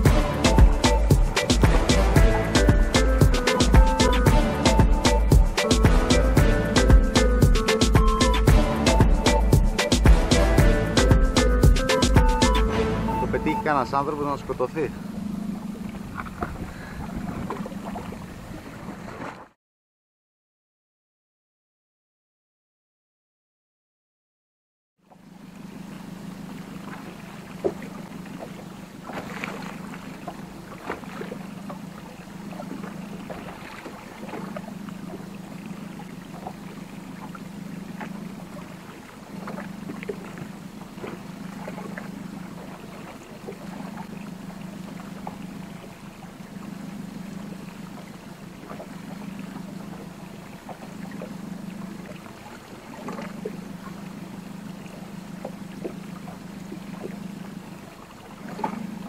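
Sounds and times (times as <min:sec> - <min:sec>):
boat engine low hum: 0:00.0 - 0:19.6, 0:25.0 - 0:59.0.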